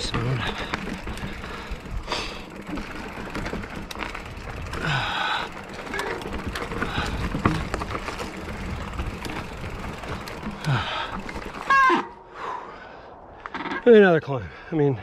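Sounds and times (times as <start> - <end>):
bike rattling and knocking: 0.0 - 12.1
bike tyres rolling on rock: 0.0 - 12.1.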